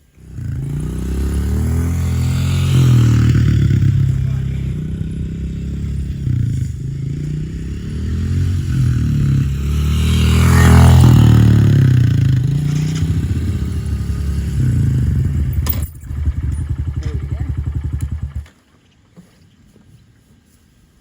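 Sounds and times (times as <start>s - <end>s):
motorbike engine revving: 0.0s - 18.6s.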